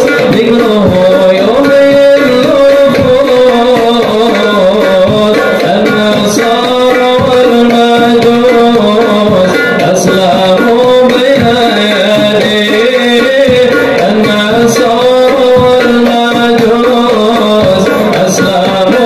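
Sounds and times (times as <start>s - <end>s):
devotional singing: 0.0s - 19.0s
frame drums beating: 0.0s - 19.0s.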